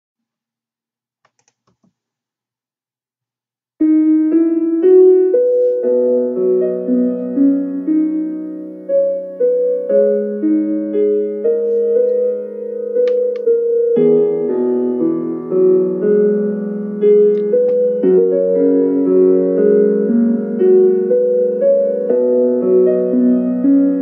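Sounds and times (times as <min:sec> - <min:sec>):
slow piano piece: 0:03.8 - 0:24.0.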